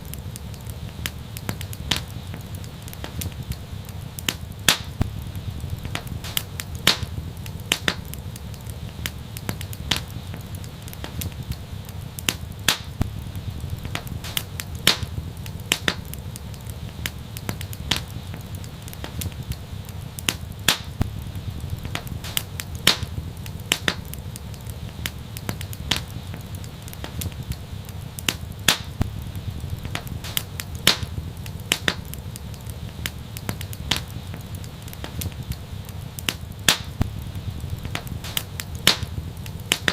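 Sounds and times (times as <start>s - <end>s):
wood fire burning: 0.0s - 39.9s.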